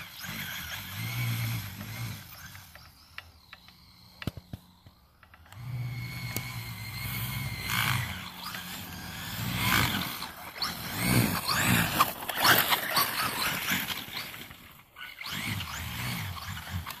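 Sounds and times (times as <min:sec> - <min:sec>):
rc truck motor whining: 0:00.0 - 0:17.0
tyres churning through snow: 0:00.0 - 0:17.0.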